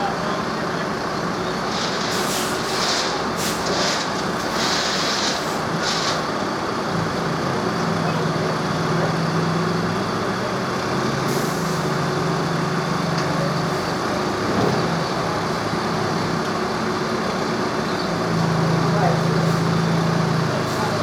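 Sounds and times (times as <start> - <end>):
large engine humming: 0.0 - 21.0.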